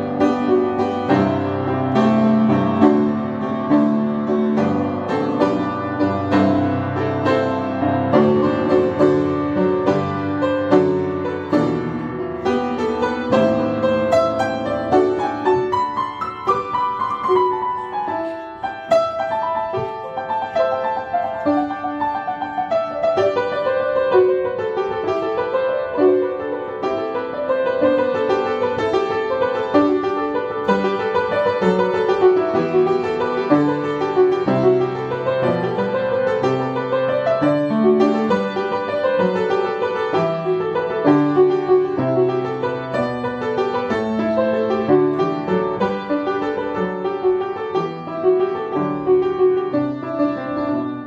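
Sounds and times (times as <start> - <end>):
upright piano playing: 0.0 - 51.0.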